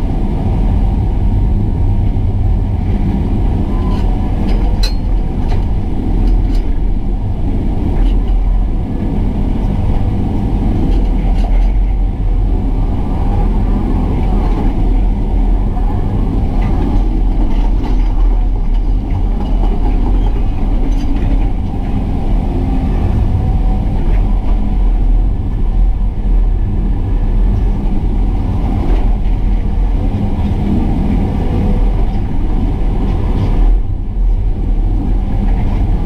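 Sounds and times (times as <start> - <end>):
excavator diesel engine rumbling: 0.0 - 36.0.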